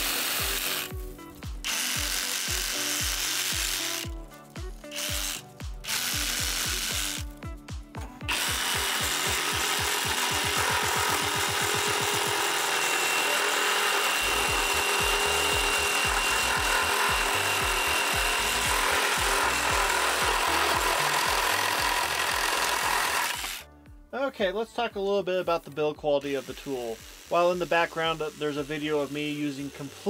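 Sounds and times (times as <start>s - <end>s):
reciprocating saw cutting wood: 0.0s - 7.4s, 8.2s - 23.7s, 26.2s - 30.0s.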